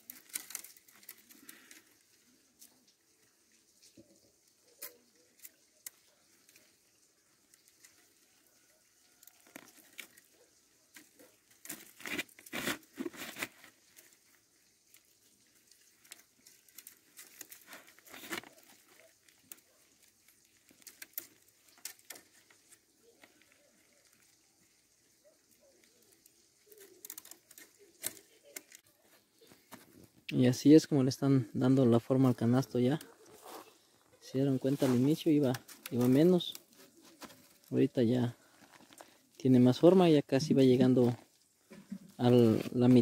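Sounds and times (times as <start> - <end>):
cane strips rustling and scraping: 0.0 - 43.0.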